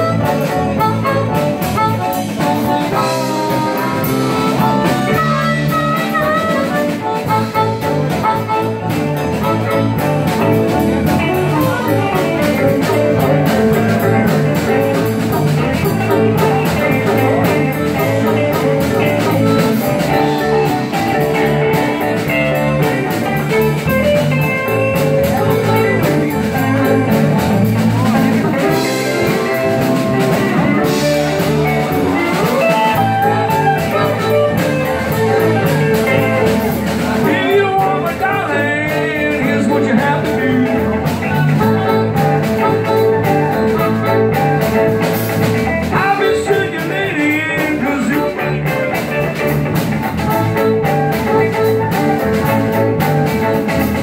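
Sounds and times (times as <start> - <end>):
amplified harmonica: 0.0 - 54.0
drum kit: 0.0 - 54.0
electric bass: 0.0 - 54.0.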